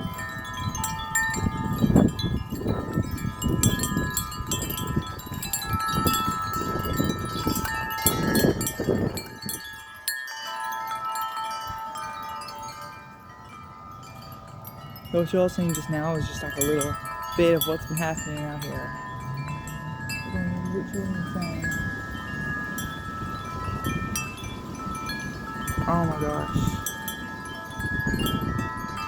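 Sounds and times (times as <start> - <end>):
wind gusts on microphone: 0.0 - 10.1, 11.6 - 29.0
metal wind chimes ringing: 0.0 - 29.0.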